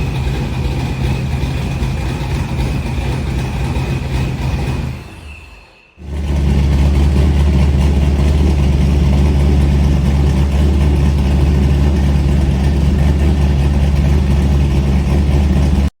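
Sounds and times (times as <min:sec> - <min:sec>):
car engine rumbling: 0:00.0 - 0:15.9.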